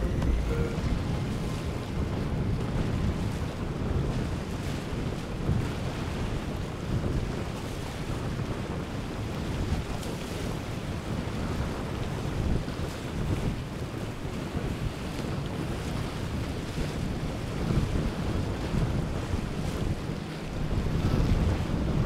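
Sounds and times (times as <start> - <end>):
surf and breaking waves: 0.0 - 22.0
wind buffeting microphone: 0.0 - 22.0.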